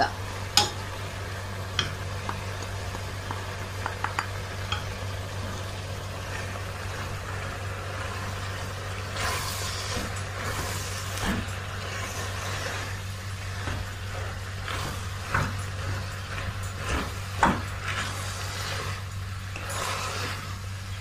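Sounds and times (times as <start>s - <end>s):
steady low hum: 0.0s - 21.0s
vegetables sizzling in a pot: 0.0s - 21.0s.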